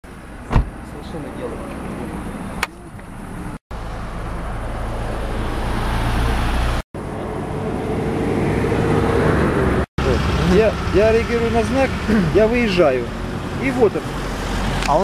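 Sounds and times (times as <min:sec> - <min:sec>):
car driving on highway: 0:00.1 - 0:15.0.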